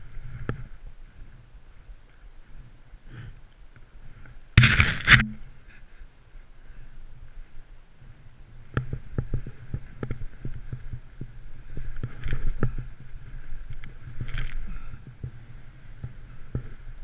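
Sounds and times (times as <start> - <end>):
wind rumble on microphone: 0.0 - 5.7, 6.8 - 17.0.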